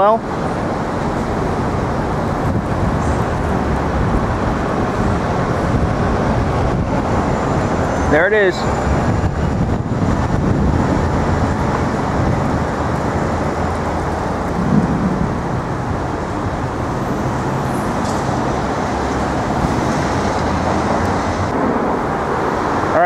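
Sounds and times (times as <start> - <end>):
city street traffic rumble: 0.0 - 23.0.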